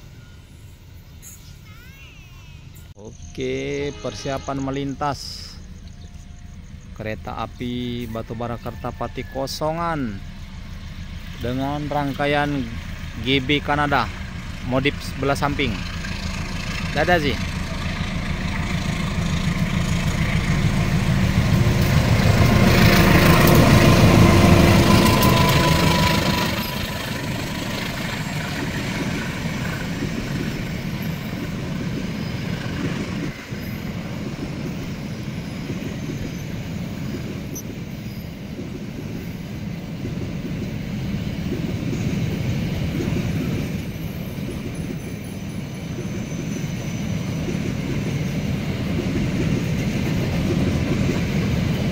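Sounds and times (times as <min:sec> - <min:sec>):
diesel locomotive engines: 0:00.0 - 0:51.9.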